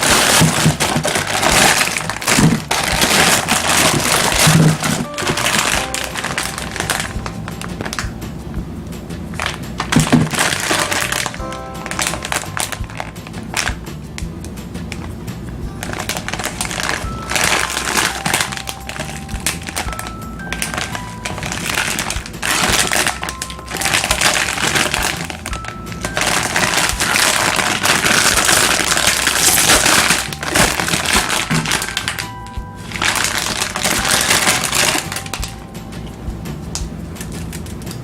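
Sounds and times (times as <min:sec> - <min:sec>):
crinkling and cracking: 0:00.0 - 0:08.2, 0:09.4 - 0:15.2, 0:15.8 - 0:35.6
background music: 0:00.0 - 0:38.0.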